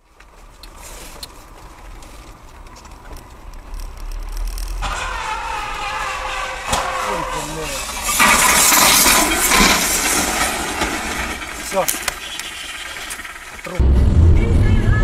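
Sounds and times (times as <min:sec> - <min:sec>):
vehicle rumbling on dirt track: 0:00.0 - 0:15.0.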